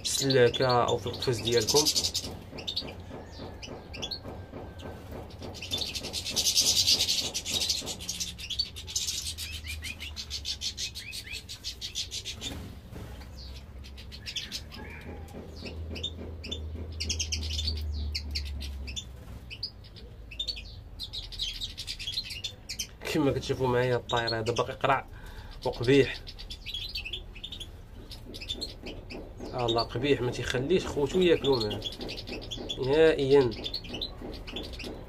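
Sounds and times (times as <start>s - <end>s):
finches chirping and twittering: 0.0s - 35.0s.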